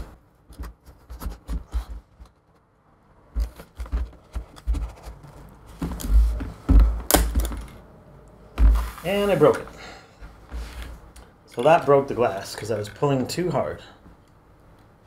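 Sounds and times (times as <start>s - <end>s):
scraping and creaking handling noises: 0.0s - 7.8s, 8.6s - 14.1s.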